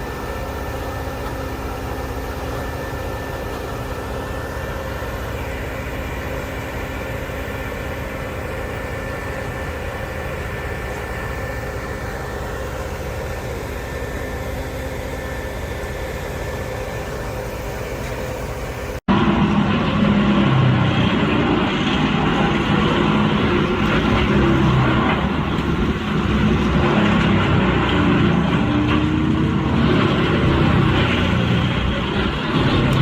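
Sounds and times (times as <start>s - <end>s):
wood grinder diesel engine running: 0.0s - 33.0s.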